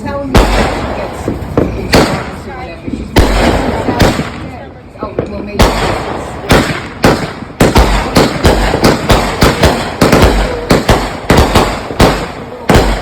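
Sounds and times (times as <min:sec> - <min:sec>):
firework shots booming: 0:00.0 - 0:13.0.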